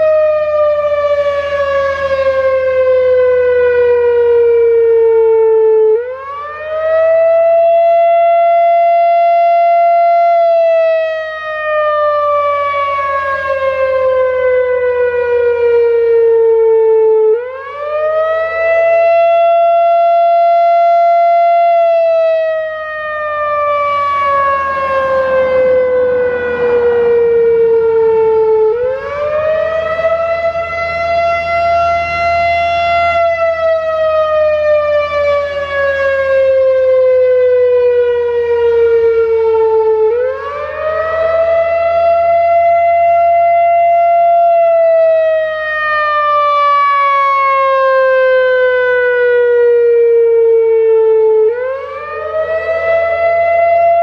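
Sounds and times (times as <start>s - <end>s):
wailing warning siren: 0.0s - 54.0s.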